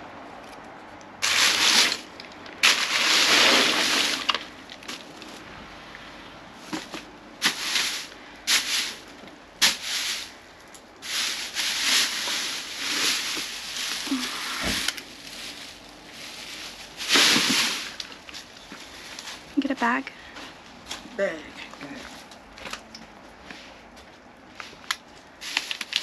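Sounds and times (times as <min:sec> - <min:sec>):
plastic bags rustling and crinkling: 0:01.2 - 0:05.5, 0:06.6 - 0:23.0, 0:23.6 - 0:26.0.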